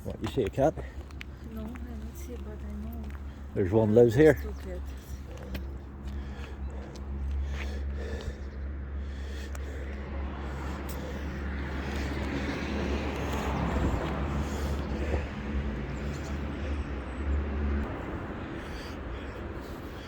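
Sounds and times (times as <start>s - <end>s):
car passing: 0.0s - 20.0s
low engine hum: 0.0s - 20.0s.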